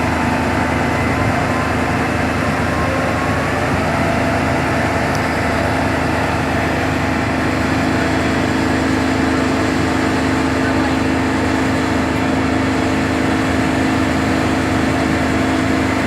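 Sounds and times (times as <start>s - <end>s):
large engine idling: 0.0s - 16.0s.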